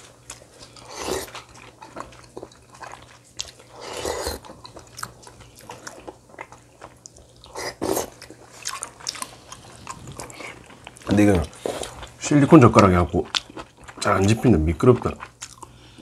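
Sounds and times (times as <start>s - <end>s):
chewing and biting food: 0.0s - 16.0s.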